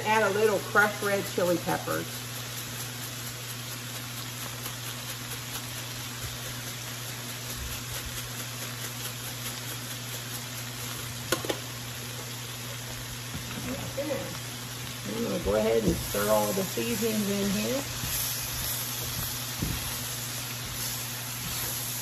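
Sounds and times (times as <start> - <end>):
food sizzling in a skillet: 0.0 - 22.0.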